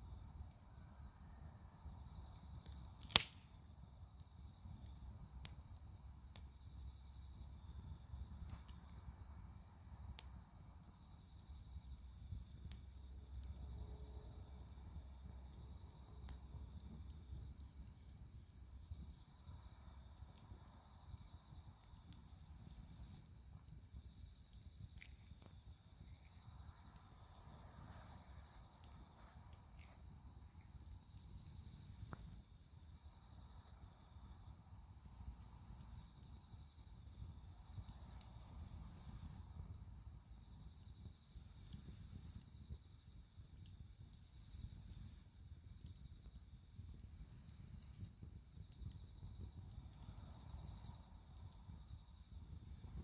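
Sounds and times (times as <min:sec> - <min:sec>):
firewood crackling and popping: 0:00.0 - 0:44.8, 0:45.5 - 0:53.0
low rumble of flames: 0:00.0 - 0:53.0.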